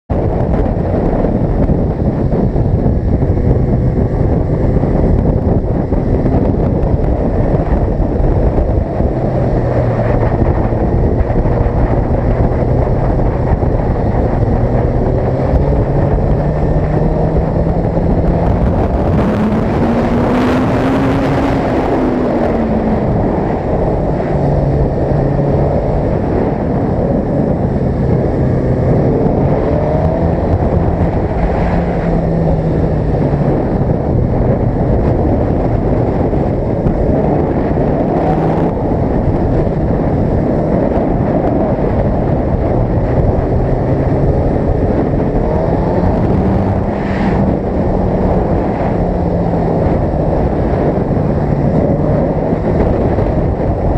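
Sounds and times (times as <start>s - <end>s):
motorcycle engine running: 0.1s - 53.9s
wind noise on microphone: 0.1s - 53.9s.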